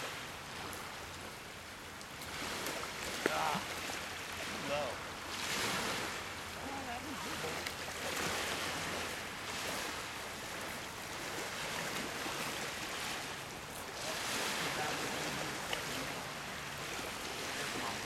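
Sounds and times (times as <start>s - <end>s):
waves washing onto pebbles: 0.0s - 18.0s.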